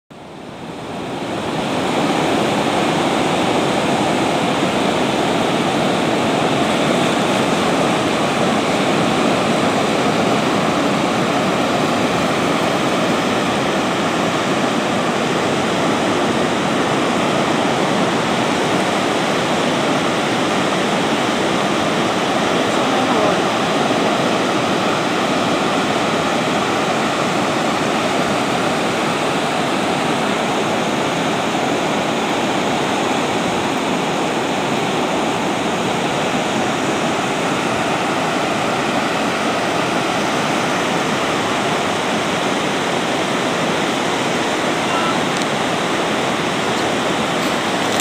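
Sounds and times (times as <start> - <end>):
ocean surf breaking: 0.2 - 48.0.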